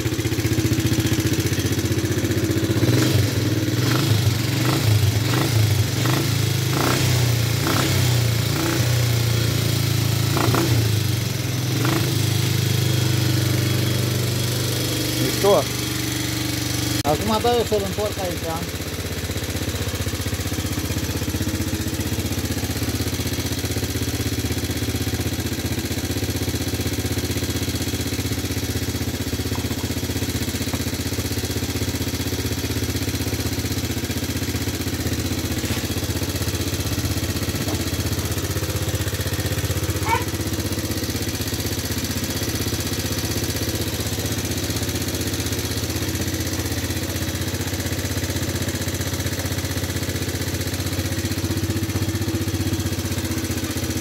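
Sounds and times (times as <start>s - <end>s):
atv engine idling: 0.0s - 54.0s.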